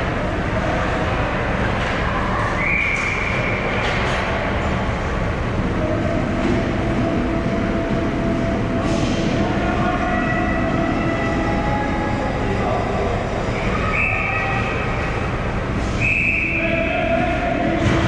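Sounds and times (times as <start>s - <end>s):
ice hockey arena din: 0.0s - 18.0s.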